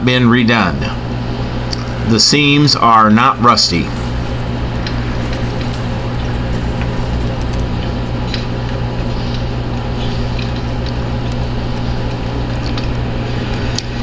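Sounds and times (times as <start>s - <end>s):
diesel truck engine idling: 0.6s - 14.0s.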